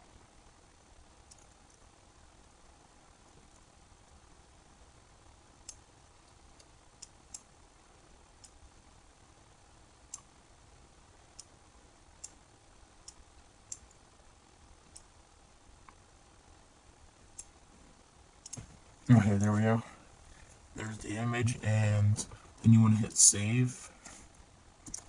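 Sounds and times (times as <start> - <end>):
low steady hiss: 0.0 - 25.0.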